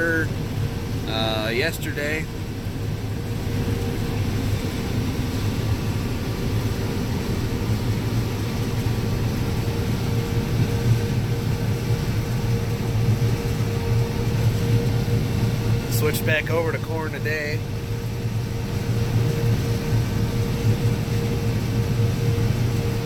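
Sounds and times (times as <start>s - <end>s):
farm machinery engine drone: 0.0s - 23.0s
steady hum: 0.0s - 23.0s.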